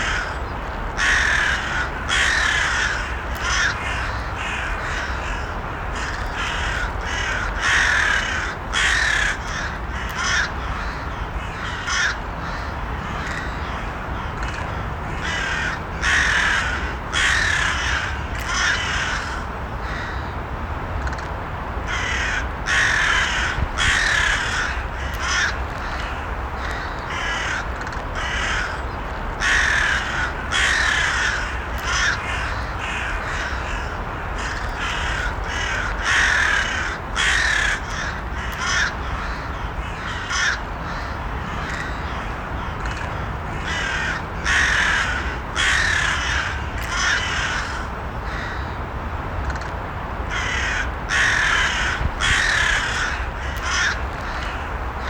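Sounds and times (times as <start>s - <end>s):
crows cawing: 0.0s - 0.4s, 1.0s - 20.3s, 21.9s - 48.8s, 50.3s - 55.0s
low background noise: 0.0s - 55.0s.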